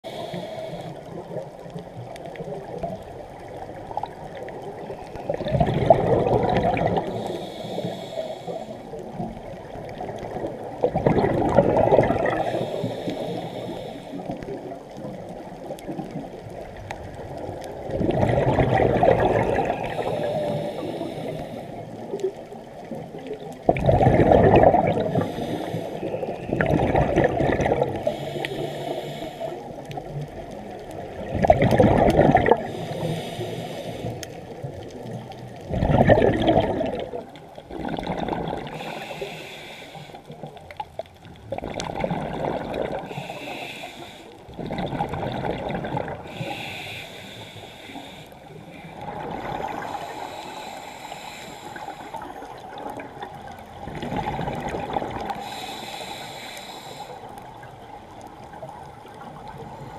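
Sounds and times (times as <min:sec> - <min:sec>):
low wash of water: 0:00.0 - 0:59.9
diver's bubbles gurgling underwater: 0:01.0 - 0:13.6, 0:14.2 - 0:33.3, 0:34.0 - 0:43.8, 0:44.4 - 0:47.3, 0:48.9 - 0:56.2.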